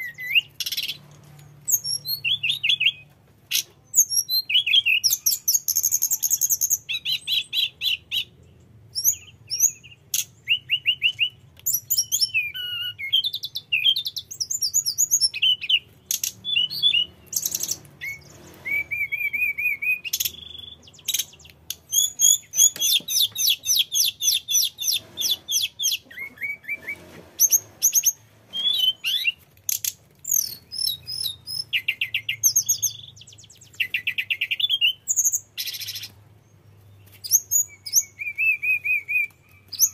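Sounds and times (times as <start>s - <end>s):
bird singing trills and whistles: 0.0s - 1.0s, 1.6s - 39.9s.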